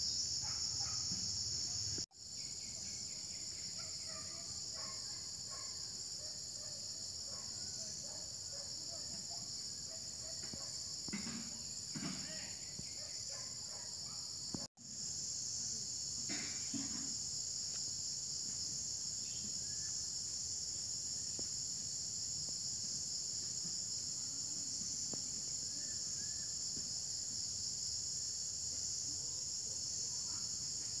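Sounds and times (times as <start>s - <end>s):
insects chorus shrill hiss: 0.0s - 31.0s.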